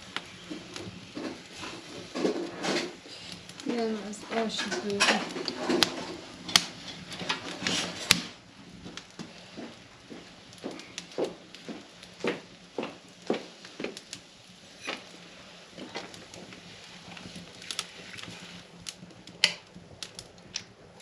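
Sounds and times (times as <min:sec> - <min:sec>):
firewood being handled: 0:00.0 - 0:21.0.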